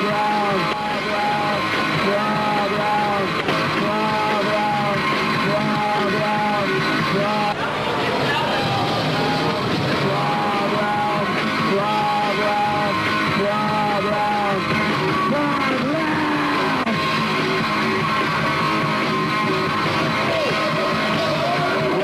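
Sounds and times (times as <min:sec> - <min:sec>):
rock band with guitar: 0:00.0 - 0:22.0
shouted rock vocals: 0:00.0 - 0:22.0.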